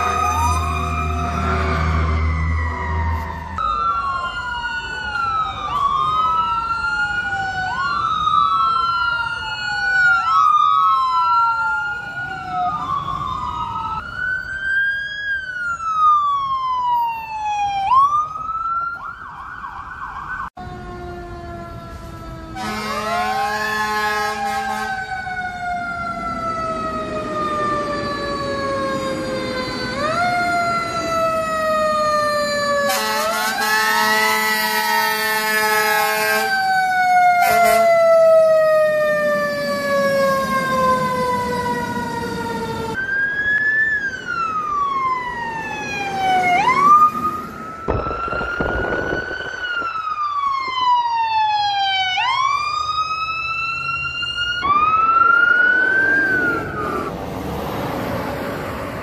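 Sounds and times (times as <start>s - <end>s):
emergency sirens wailing: 0.0s - 59.0s
slow falling siren wail: 0.0s - 59.0s.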